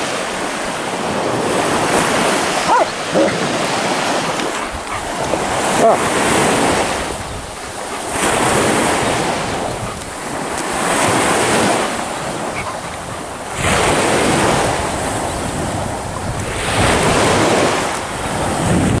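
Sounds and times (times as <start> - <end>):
sea waves washing onto beach: 0.0 - 19.0
wind buffeting microphone: 0.0 - 19.0.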